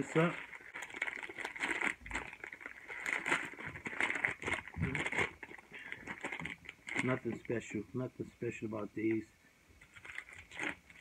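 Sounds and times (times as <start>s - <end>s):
plastic packet crinkling: 0.0s - 7.8s, 9.8s - 11.0s.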